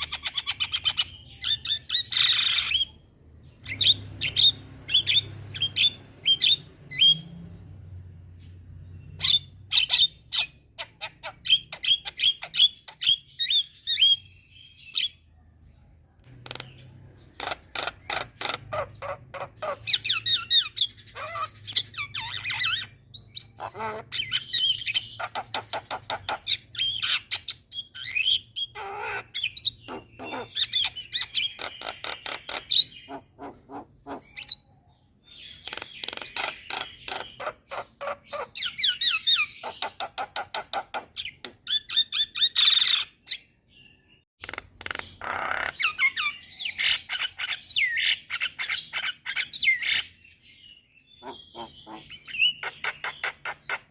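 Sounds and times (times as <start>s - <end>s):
starlings singing: 0.0s - 15.4s, 16.2s - 53.9s.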